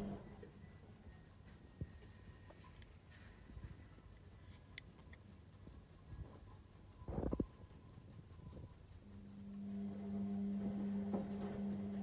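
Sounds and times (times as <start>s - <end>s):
pocket watch ticking: 0.0s - 12.0s.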